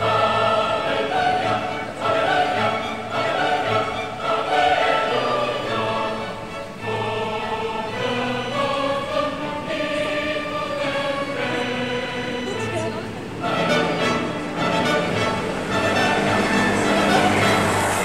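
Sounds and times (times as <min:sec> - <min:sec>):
choir singing long notes: 0:00.0 - 0:18.0.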